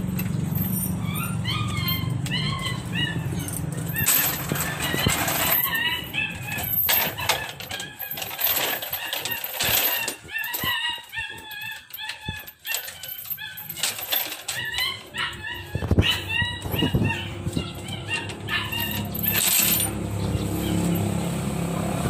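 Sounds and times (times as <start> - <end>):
metal chain rattling on wood: 0.0 - 21.2.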